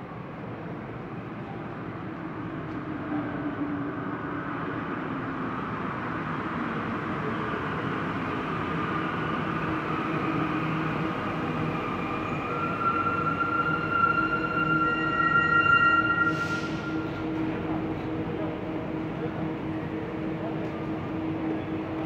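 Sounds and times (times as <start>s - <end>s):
metro train running: 0.0s - 22.0s.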